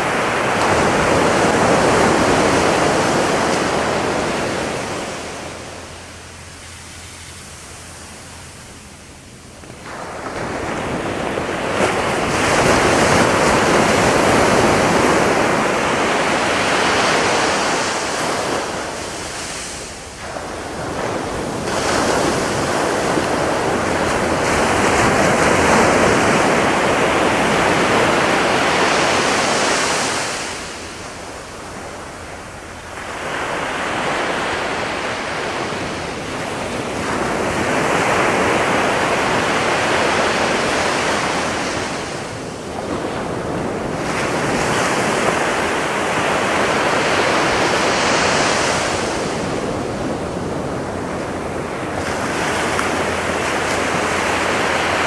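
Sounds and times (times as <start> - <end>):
waves crashing on beach: 0.0 - 55.0.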